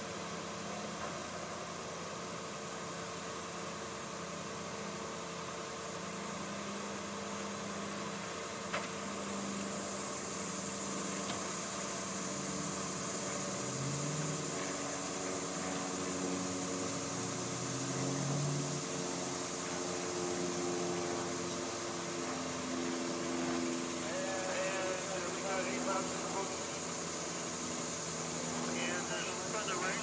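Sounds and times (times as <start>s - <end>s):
constant hiss: 0.0s - 30.0s
truck engines idling: 0.0s - 30.0s.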